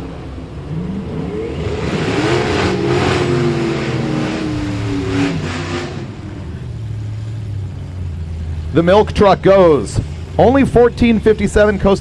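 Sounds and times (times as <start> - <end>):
drag racing engine: 0.0 - 12.0.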